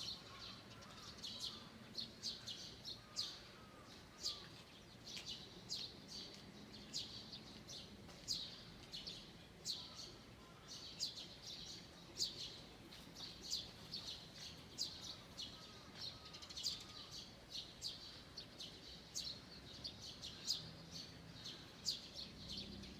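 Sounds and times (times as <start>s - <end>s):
birds singing: 0.0s - 22.9s.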